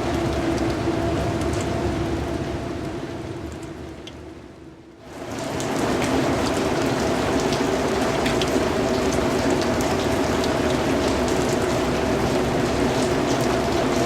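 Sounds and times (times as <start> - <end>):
raindrop ticks: 0.0 - 2.2, 2.8 - 4.3, 5.4 - 14.0
steady rain hiss: 0.0 - 14.0.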